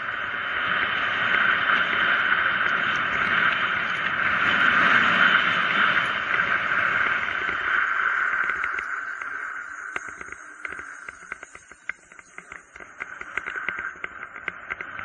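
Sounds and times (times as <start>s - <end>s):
bike tyre noise on asphalt: 0.0s - 15.0s
rushing wind: 0.0s - 15.0s.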